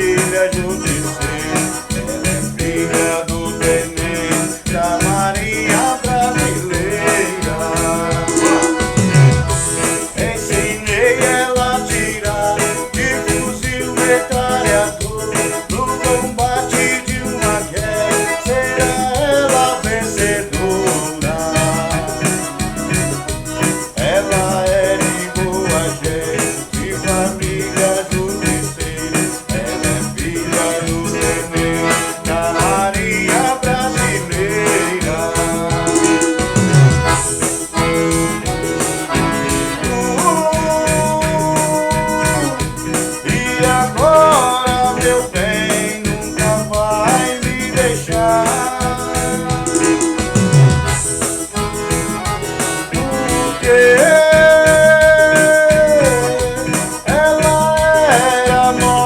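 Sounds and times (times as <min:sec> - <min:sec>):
accordion: 0:00.0 - 0:59.0
live band playing: 0:00.0 - 0:59.0.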